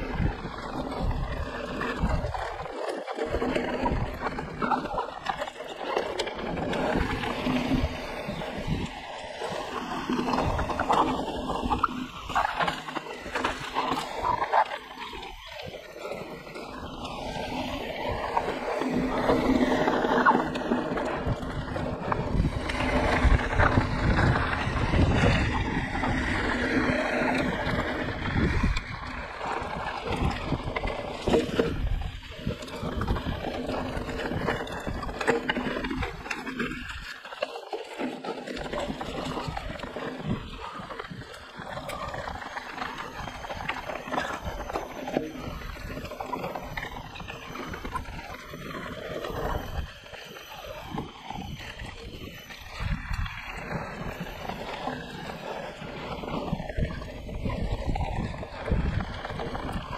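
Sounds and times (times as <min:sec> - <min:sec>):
wind noise: 0:00.0 - 0:37.2, 0:38.6 - 0:59.9
bike and camera rattling: 0:00.0 - 0:59.9
bike tyres on dirt trail: 0:00.0 - 0:59.9.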